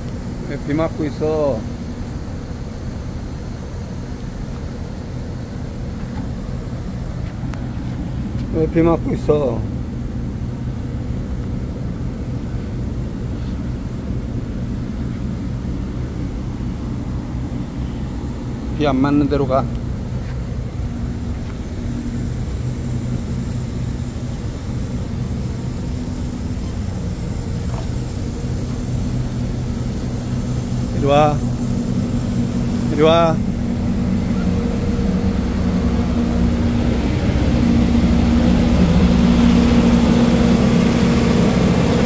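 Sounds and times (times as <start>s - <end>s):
faint rain hiss: 0.0s - 42.0s
ship machinery drone: 0.0s - 42.0s.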